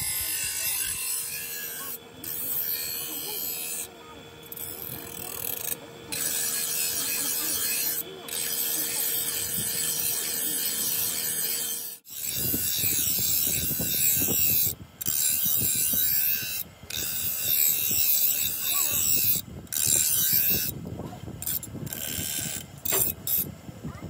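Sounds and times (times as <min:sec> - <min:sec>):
bench grinder grinding steel: 0:00.0 - 0:20.8, 0:21.4 - 0:23.5.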